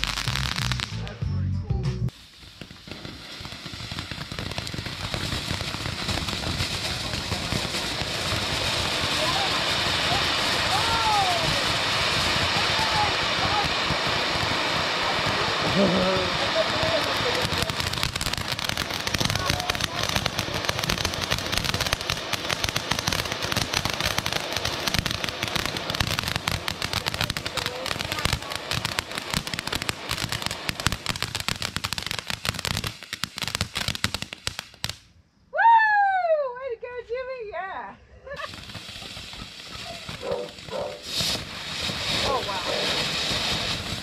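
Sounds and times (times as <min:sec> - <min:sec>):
firework hissing and crackling: 0:00.0 - 0:01.1, 0:02.1 - 0:35.2, 0:38.3 - 0:44.0.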